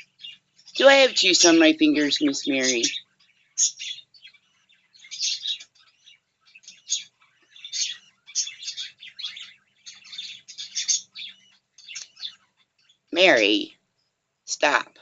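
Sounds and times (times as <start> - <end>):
pet birds chirping: 0.0 - 15.0.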